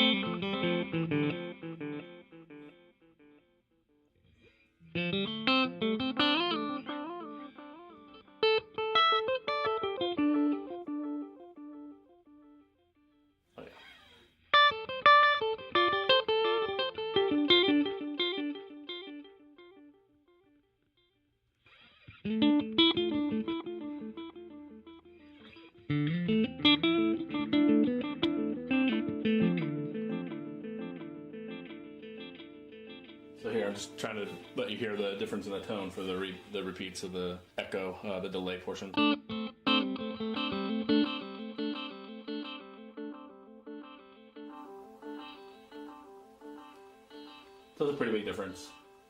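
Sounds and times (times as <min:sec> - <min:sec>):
electric guitar with delay echoes: 0:00.0 - 0:03.5, 0:04.5 - 0:13.0, 0:14.6 - 0:20.0, 0:22.0 - 0:36.8, 0:38.4 - 0:49.0.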